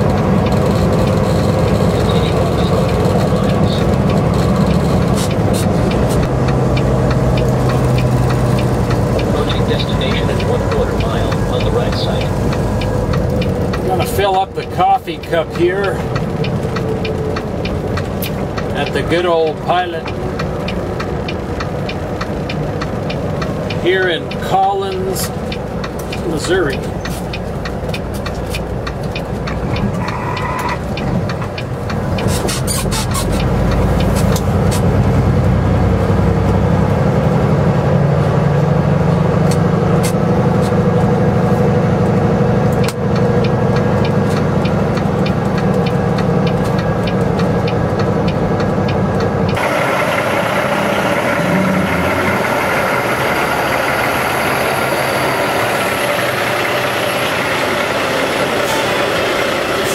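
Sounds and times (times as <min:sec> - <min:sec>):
truck engine and road drone: 0:00.0 - 0:59.9
truck running outside: 0:00.0 - 0:59.9.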